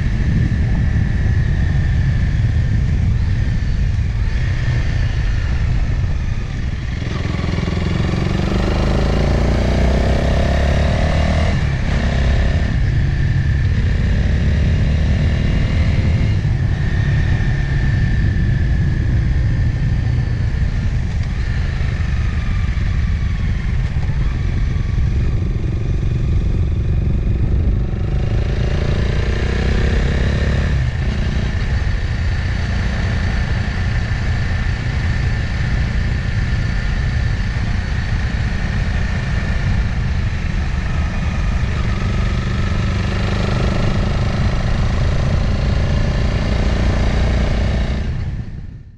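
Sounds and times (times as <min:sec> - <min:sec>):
motorcycle engine running: 0:00.0 - 0:48.9
road and wind noise: 0:00.0 - 0:48.9.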